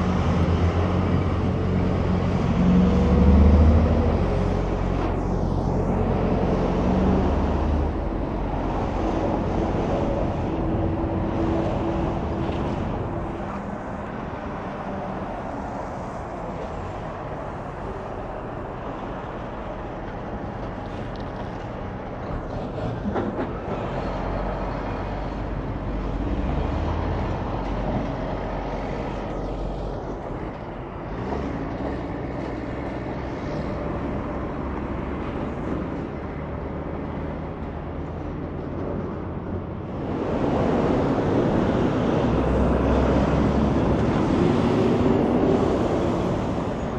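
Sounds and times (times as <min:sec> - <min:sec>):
highway traffic passing: 0:00.0 - 0:46.9.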